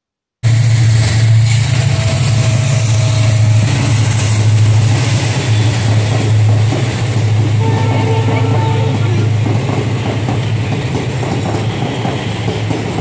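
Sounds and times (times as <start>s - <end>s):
diesel locomotive engine drone: 0.4s - 13.0s
wheel and rail noise: 0.4s - 13.0s.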